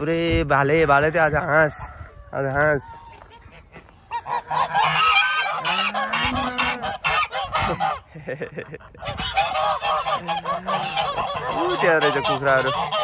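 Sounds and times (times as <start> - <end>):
geese honking: 1.8 - 13.0.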